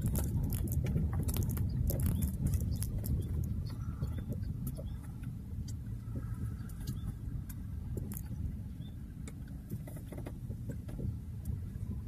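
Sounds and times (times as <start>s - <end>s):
tyres crackling on loose ground: 0.0s - 11.8s
car rumbling on dirt road: 0.0s - 12.0s.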